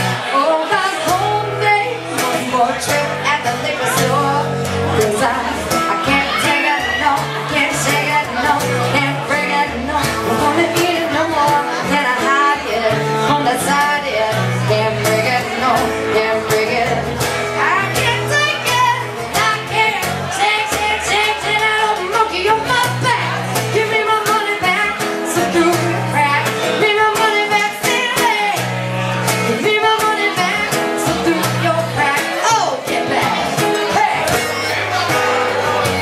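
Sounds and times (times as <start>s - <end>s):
woman singing into a microphone: 0.0s - 35.3s
strummed acoustic guitar: 0.0s - 36.0s.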